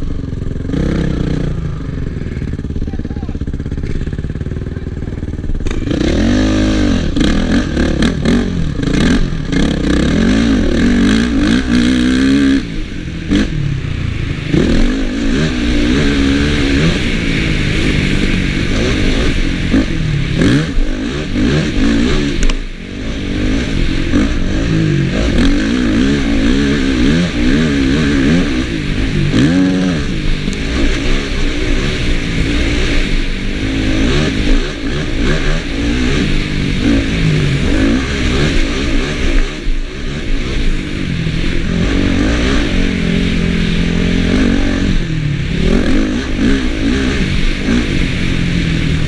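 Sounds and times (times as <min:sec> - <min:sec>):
motocross bike engine revving: 0:00.0 - 0:49.0.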